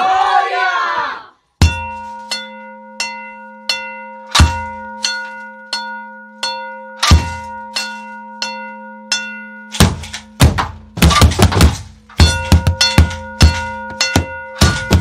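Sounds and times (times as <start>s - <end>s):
metal object struck ringing: 1.6s - 15.0s.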